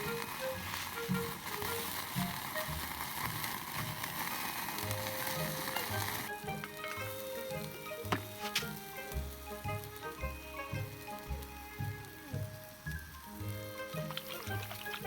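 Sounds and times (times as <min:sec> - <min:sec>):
background music: 0:00.0 - 0:15.0
meat sizzling on a grill: 0:00.0 - 0:15.0.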